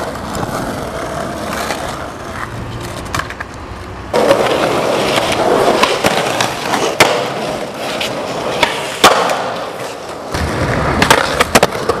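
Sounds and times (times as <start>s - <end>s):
skateboard clacking on ground: 0.0s - 12.0s
skateboard wheels rolling on concrete: 0.0s - 12.0s.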